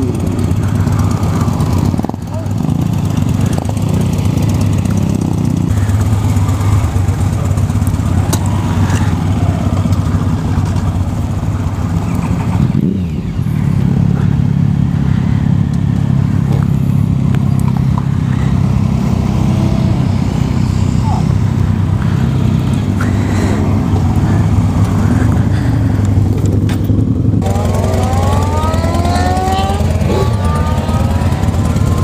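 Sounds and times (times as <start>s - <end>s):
motorcycle engines running: 0.0s - 32.0s.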